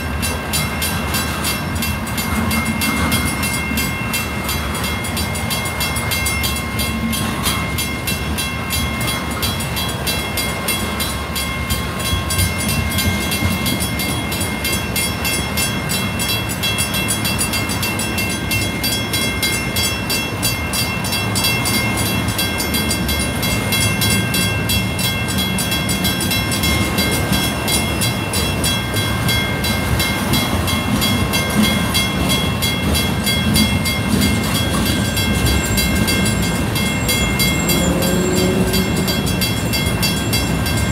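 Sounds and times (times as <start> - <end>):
crossing bell ringing: 0.0 - 40.9
freight train wheels rumbling on rails: 0.0 - 40.9.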